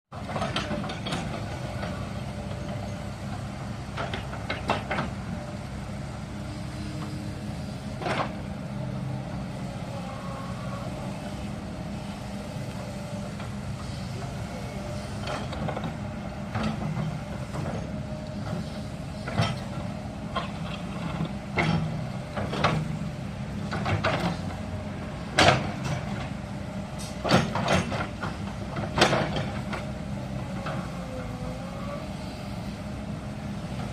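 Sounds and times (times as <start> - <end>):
excavator engine running: 0.1 - 33.9.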